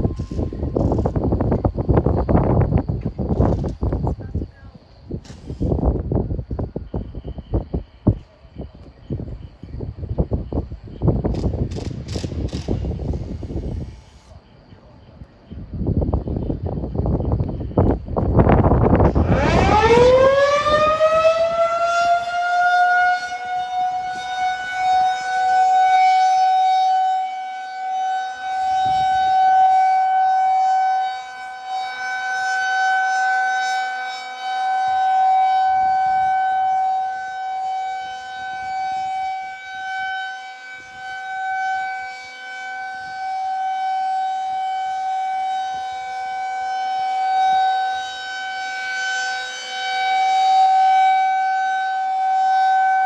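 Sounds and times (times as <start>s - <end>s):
rotating warning siren: 0.0s - 53.0s.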